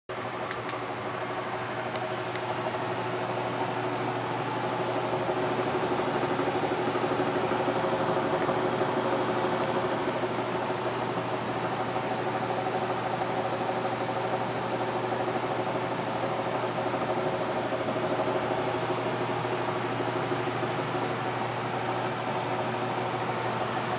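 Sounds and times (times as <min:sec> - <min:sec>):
furnace hum: 0:00.1 - 0:23.9.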